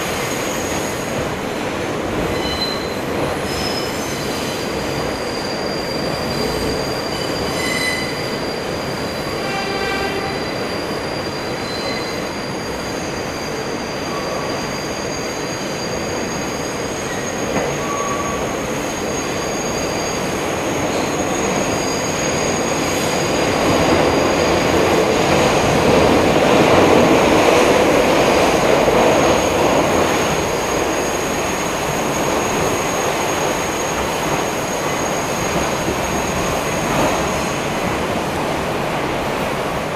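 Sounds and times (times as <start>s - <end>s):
steel wheels squealing on rails: 0.0s - 39.9s
subway train rumbling: 0.0s - 39.9s.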